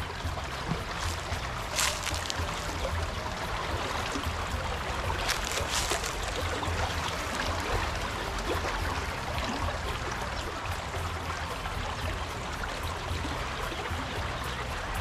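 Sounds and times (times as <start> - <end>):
water rushing over stones: 0.0 - 15.0
water splashes: 0.0 - 15.0.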